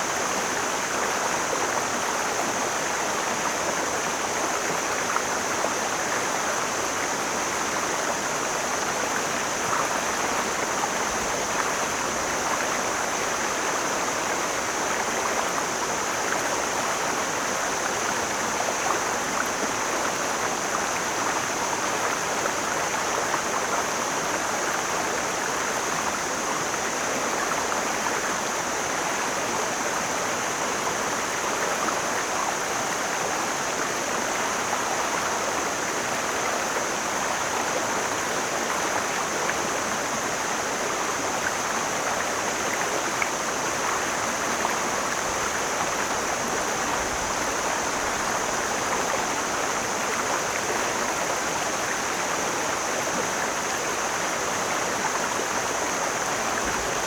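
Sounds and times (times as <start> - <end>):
stream splashing over rocks: 0.0 - 57.0.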